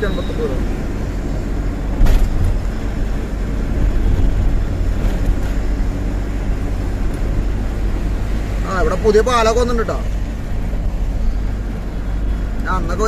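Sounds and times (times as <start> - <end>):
diesel engine drone: 0.0 - 13.0
road rumble: 0.0 - 13.0.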